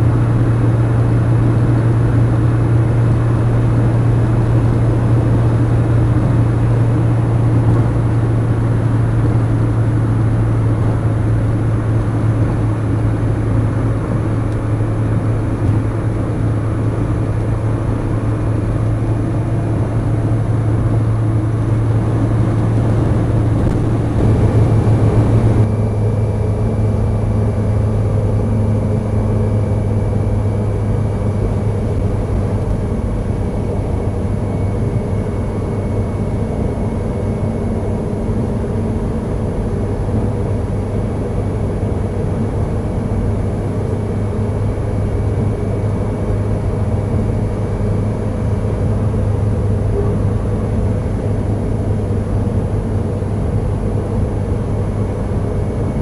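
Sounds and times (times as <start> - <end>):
car interior road noise: 0.0 - 56.0.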